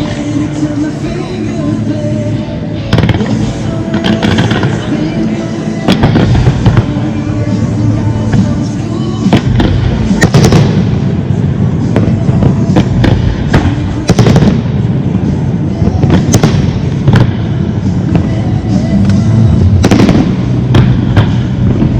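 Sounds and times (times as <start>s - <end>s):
fireworks bangs and crackles: 0.0s - 21.9s
low rumble: 0.0s - 21.9s.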